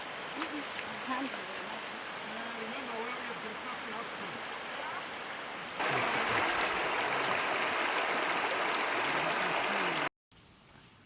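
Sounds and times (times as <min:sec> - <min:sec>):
river water rushing: 0:00.0 - 0:10.1.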